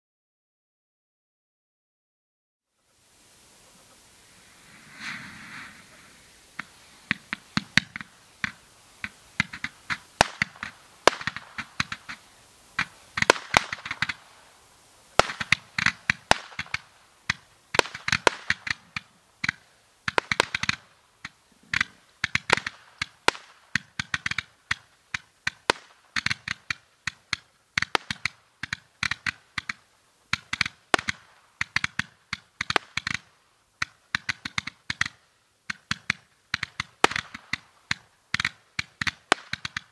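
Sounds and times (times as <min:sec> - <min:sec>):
firework hiss: 0:02.9 - 0:39.9
roman candles popping: 0:05.0 - 0:14.5, 0:15.1 - 0:39.9.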